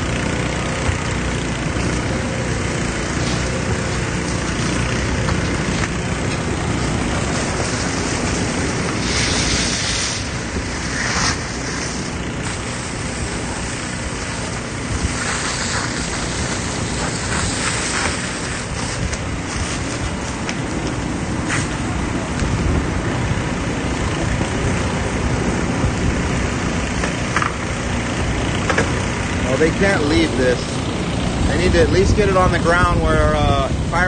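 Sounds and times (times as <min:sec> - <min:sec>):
fire burning: 0:00.0 - 0:34.0
fire hoses spraying water: 0:00.0 - 0:34.0
pump engine running: 0:00.0 - 0:34.0.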